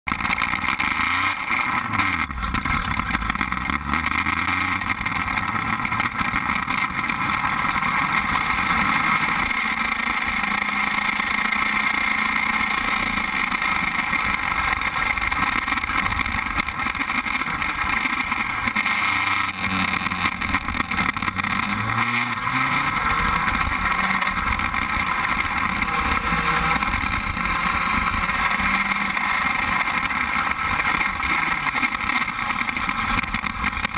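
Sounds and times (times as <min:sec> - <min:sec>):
constant rushing noise: 0:00.1 - 0:33.9
race car engine running hard: 0:00.1 - 0:33.9.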